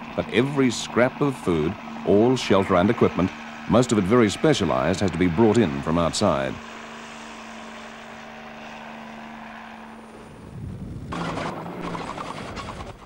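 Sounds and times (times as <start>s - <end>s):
helicopter hovering: 0.0s - 13.0s
rattling vehicle engine: 0.0s - 13.0s.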